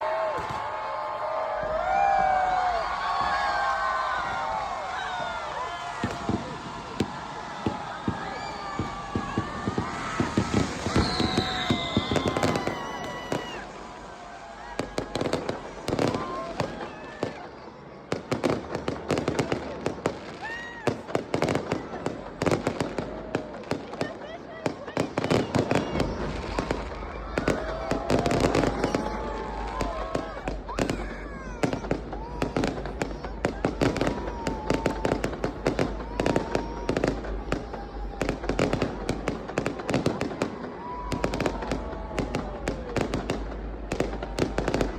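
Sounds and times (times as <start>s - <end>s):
fireworks and firecrackers popping: 0.0s - 44.9s.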